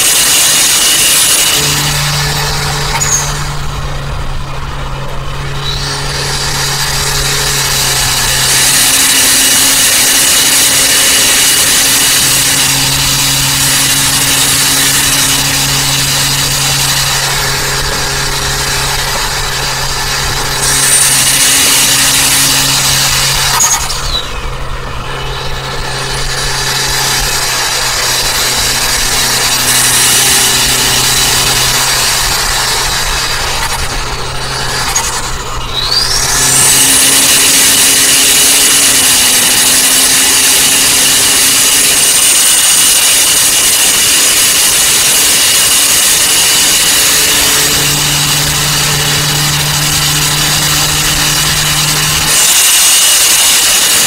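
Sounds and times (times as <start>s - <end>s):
car engine drone: 0.0s - 54.0s
road and wind noise: 0.0s - 54.0s.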